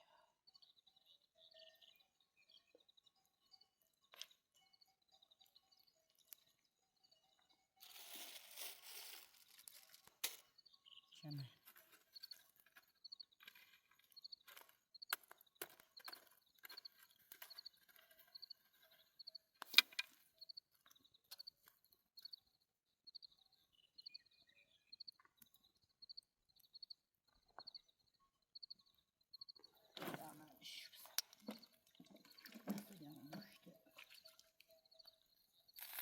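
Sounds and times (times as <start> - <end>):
cricket chirping: 0.0 - 36.0.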